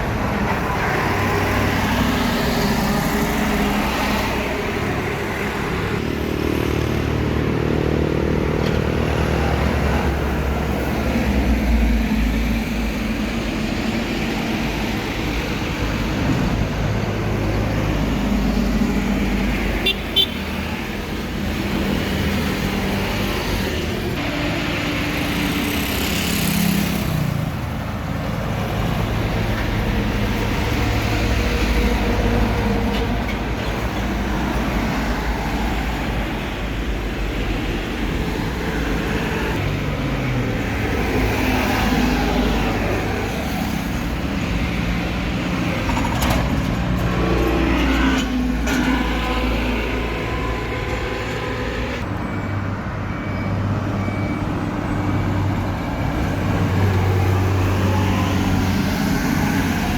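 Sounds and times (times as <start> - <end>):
trucks passing by: 0.0 - 59.9.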